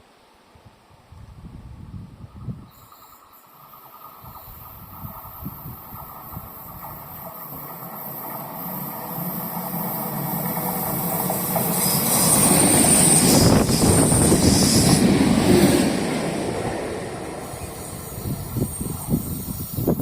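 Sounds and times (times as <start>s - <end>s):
train rumbling on rails: 1.2s - 20.0s
high hiss: 2.3s - 20.0s.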